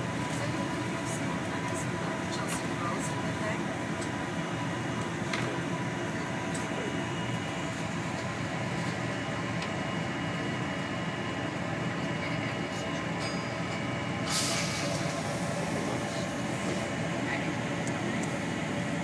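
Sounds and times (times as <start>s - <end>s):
train hum and rumble: 0.0s - 19.0s.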